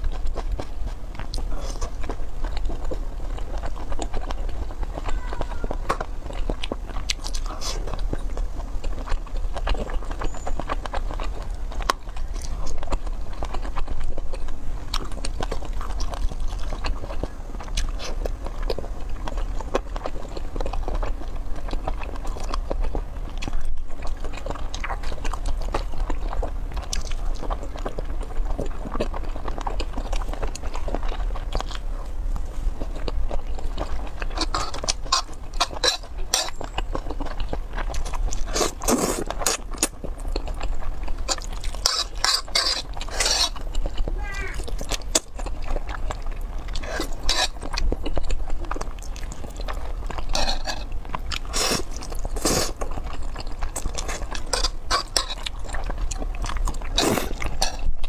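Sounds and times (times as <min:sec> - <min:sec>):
chewing noodles: 0:00.0 - 0:58.0.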